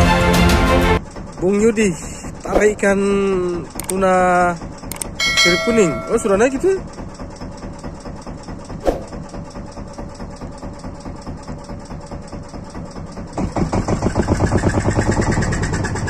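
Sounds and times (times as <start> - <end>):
boat engine puttering: 1.0 - 16.0.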